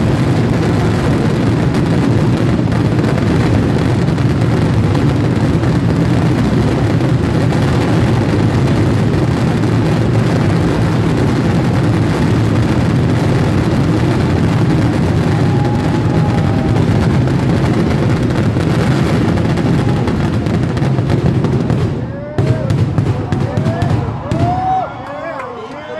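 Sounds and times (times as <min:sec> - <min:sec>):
fireworks barrage rumbling: 0:00.0 - 0:25.9.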